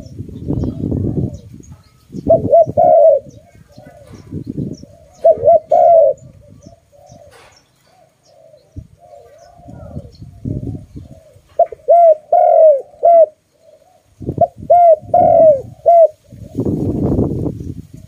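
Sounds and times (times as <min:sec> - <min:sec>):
dove cooing: 0:00.0 - 0:17.2.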